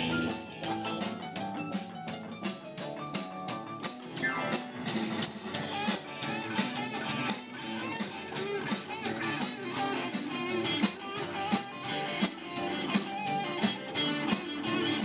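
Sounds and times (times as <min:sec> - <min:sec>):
drums with a steady beat: 0:00.0 - 0:15.0
electric guitars: 0:00.0 - 0:15.0
keyboard: 0:00.0 - 0:15.0
tambourine shaken: 0:00.0 - 0:15.0.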